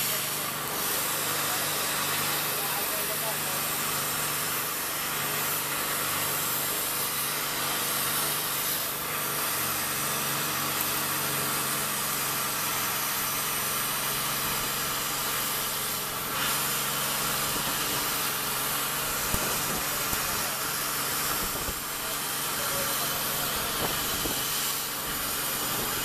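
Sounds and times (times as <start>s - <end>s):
plasma torch hissing: 0.0s - 26.0s.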